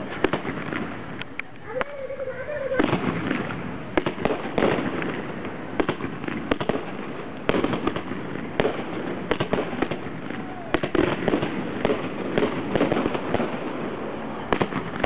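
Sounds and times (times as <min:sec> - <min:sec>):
continuous rushing noise: 0:00.0 - 0:15.0
firework bangs: 0:00.0 - 0:15.0.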